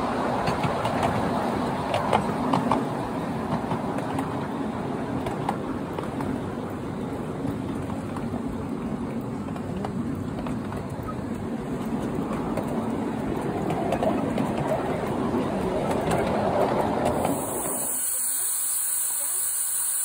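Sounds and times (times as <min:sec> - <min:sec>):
rail joint clicks: 0:00.0 - 0:20.0
small train wheels rumbling: 0:00.0 - 0:20.0.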